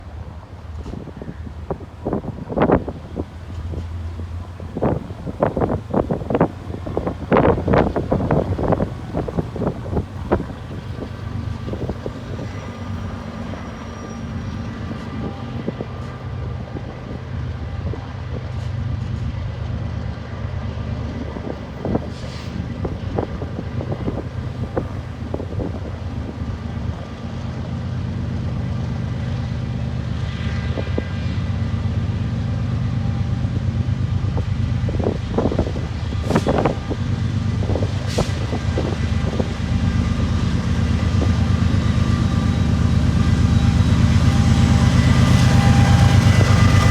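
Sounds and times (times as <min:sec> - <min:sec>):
diesel locomotive engine drone: 0:00.0 - 0:46.9
metallic train clanks: 0:00.0 - 0:46.9.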